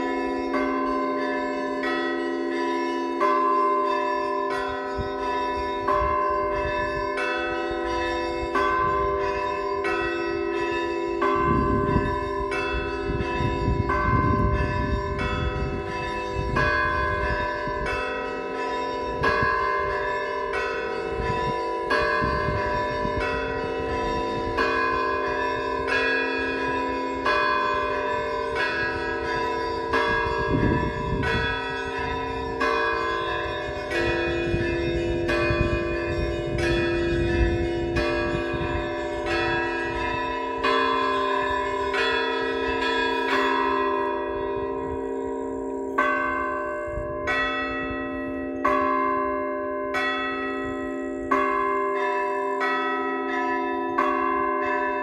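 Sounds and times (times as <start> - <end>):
large bells ringing: 0.0 - 55.0
small bells chiming: 0.0 - 55.0.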